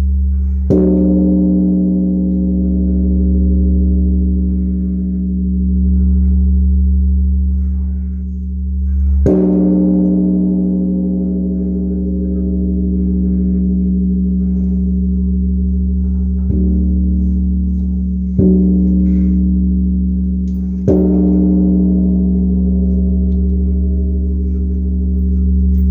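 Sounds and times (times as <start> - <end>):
large bronze bell ringing: 0.0 - 25.9.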